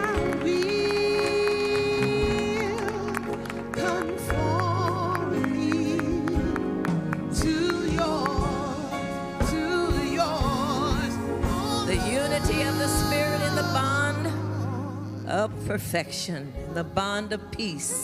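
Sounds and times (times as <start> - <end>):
band playing chords: 0.0 - 18.0
person singing with vibrato: 0.0 - 18.0.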